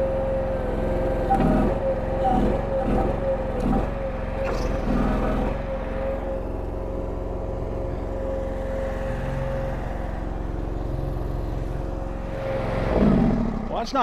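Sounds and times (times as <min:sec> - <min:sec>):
engine hum: 0:00.0 - 0:14.0
high mechanical whine: 0:00.0 - 0:14.0.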